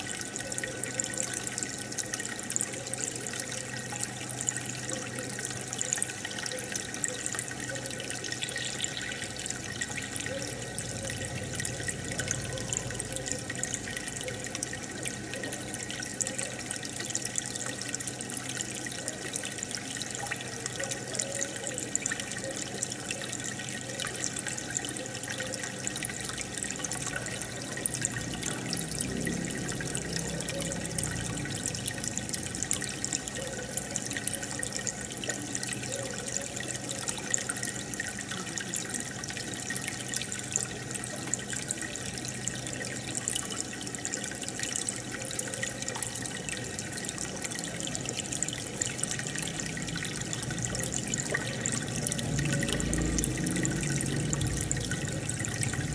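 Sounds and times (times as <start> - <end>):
aquarium bubbles fizzing: 0.0 - 55.9.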